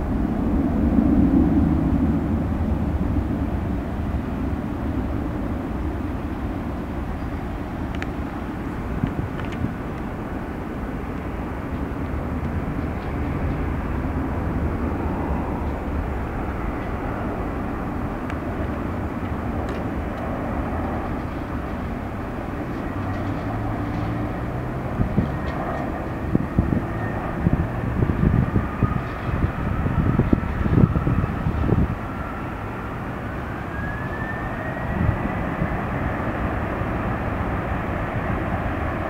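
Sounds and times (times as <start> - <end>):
jet engine rumble at takeoff: 0.0 - 39.0.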